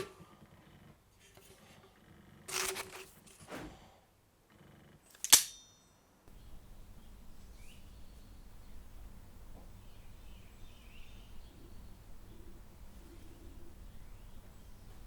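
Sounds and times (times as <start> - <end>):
faint low background noise: 0.0 - 15.0.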